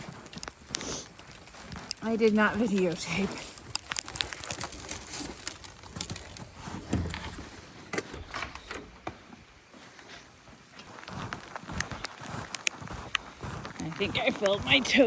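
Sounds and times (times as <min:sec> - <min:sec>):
footsteps on crusted snow: 0:00.0 - 0:07.9, 0:09.1 - 0:15.0.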